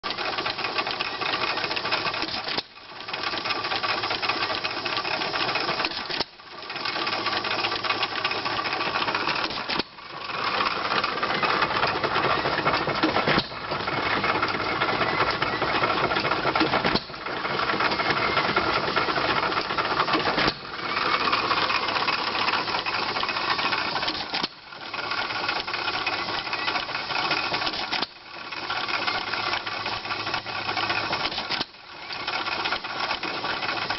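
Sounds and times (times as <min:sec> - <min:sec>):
engine driving mechanical clatter: 0:00.0 - 0:33.9.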